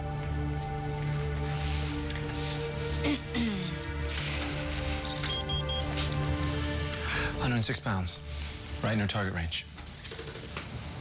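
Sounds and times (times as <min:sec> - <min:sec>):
sustained music over pulsing bed: 0:00.0 - 0:09.5.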